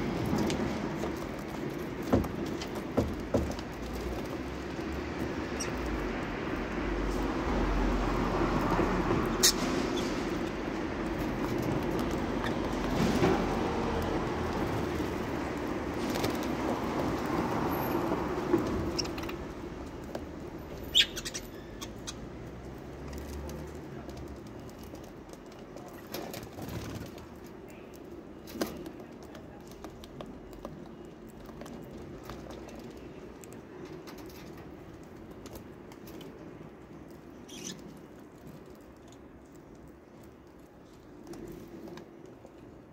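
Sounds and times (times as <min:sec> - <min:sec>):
birds clicking while feeding: 0:00.1 - 0:06.9, 0:08.1 - 0:13.0, 0:18.1 - 0:41.2.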